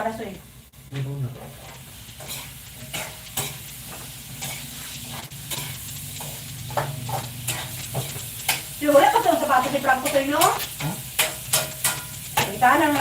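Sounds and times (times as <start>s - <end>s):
food sizzling in a frying pan: 0.0s - 13.0s
utensil scraping a pan: 1.4s - 13.0s.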